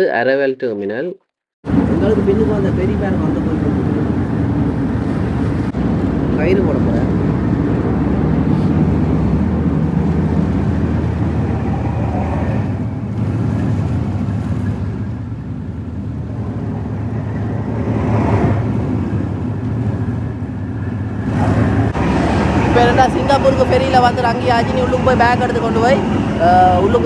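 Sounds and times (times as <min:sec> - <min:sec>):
ferry engines low rumble: 0:01.6 - 0:27.0.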